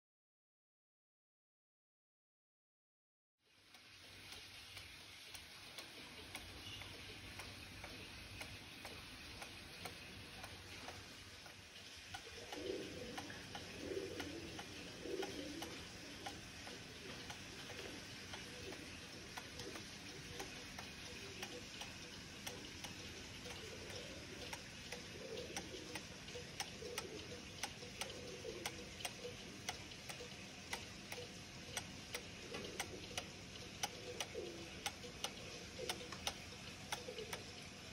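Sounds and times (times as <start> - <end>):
clock ticking: 3.7 - 37.9
low cuckoo calls: 4.1 - 37.9.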